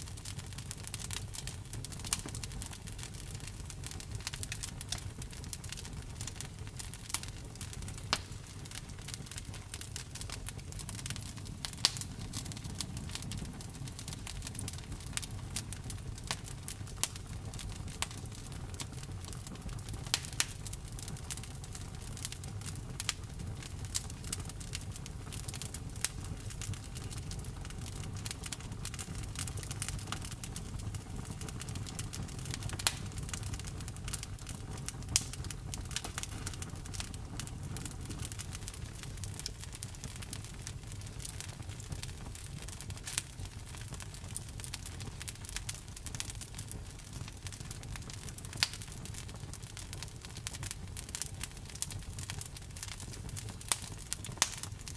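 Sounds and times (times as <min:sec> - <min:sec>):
campfire crackling and popping: 0:00.0 - 0:54.9
low steady fire rumble: 0:00.0 - 0:54.9.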